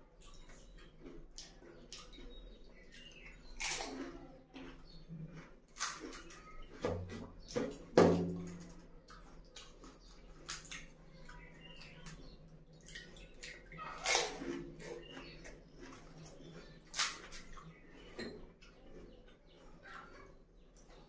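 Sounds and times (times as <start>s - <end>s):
wet chewing and slurping: 0.0s - 21.0s.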